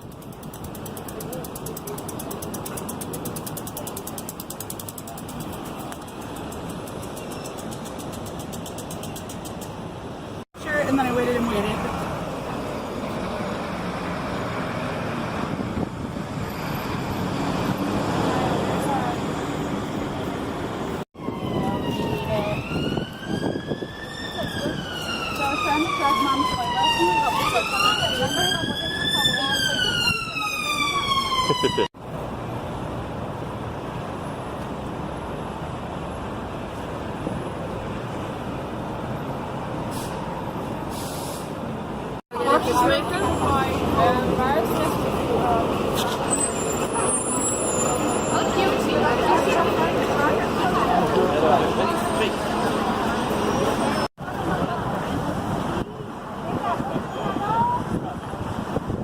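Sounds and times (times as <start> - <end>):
road traffic rumble and hiss: 0.0 - 59.0.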